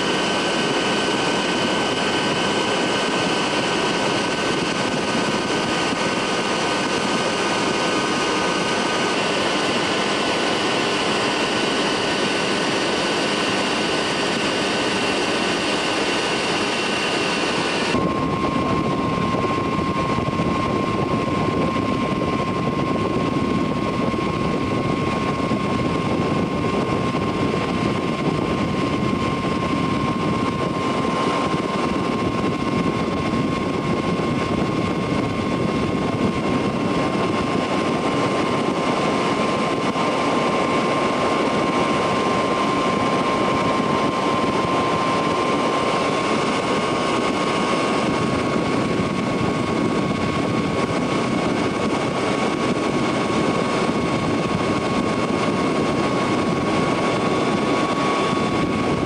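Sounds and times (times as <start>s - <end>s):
light aircraft engine and propeller: 0.0s - 59.0s
steady whine: 0.0s - 59.0s.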